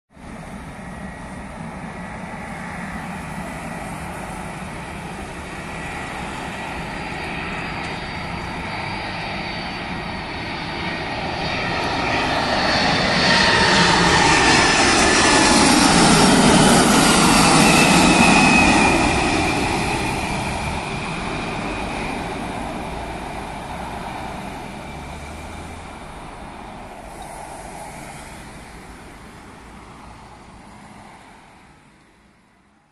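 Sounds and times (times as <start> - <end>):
jet aircraft passing by: 0.2 - 32.9.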